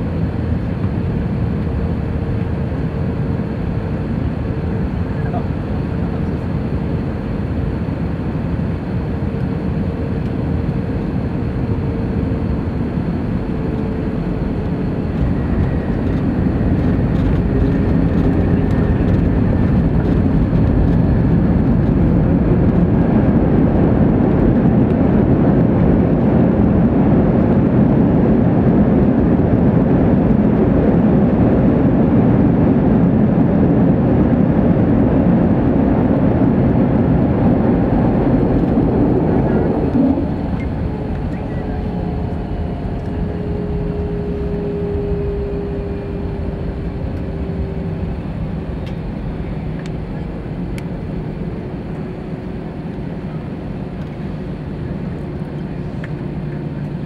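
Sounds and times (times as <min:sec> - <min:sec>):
engine and airflow rush: 0:00.0 - 0:57.0
jet roar on runway: 0:00.0 - 0:57.0.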